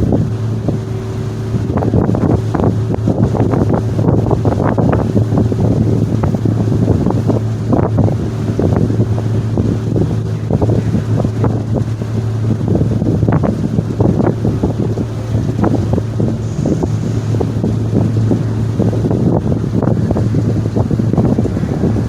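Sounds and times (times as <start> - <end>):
ferry engines droning: 0.0 - 22.0
wind buffeting microphone: 0.0 - 22.0.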